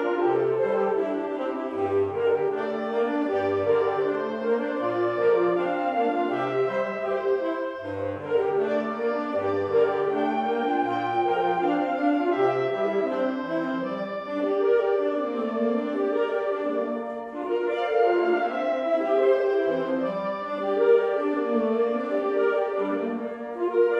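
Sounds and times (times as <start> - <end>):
woodwind ensemble playing chords: 0.0 - 23.9.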